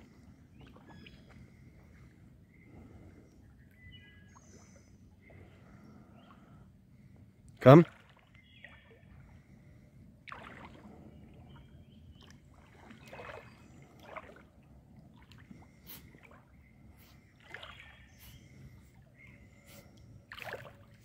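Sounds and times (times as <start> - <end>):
water sloshing and splashing: 0.0 - 3.6, 4.2 - 21.0.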